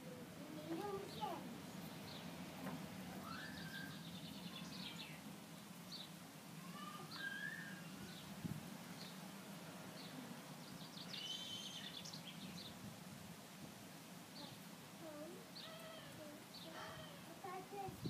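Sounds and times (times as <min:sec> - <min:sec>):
small birds chirping: 0:00.0 - 0:12.8, 0:14.3 - 0:17.9.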